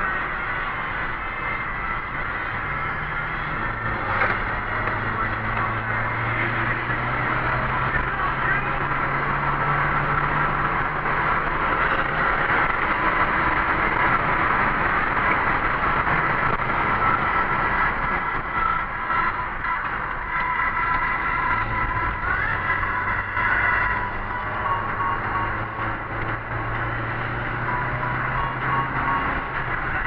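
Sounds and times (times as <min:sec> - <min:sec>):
low engine hum: 0:00.0 - 0:30.0
road and wind noise: 0:00.0 - 0:30.0.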